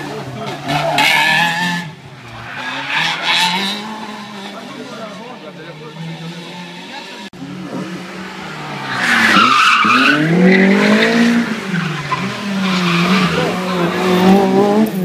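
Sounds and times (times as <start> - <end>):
rally car engine revving hard: 0.0 - 2.0, 2.6 - 15.0.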